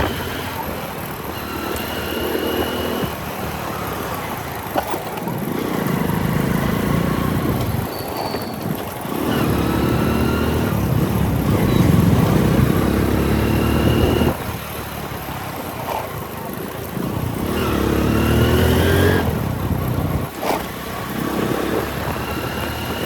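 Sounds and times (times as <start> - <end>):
motorcycle engine under throttle: 0.0 - 23.0.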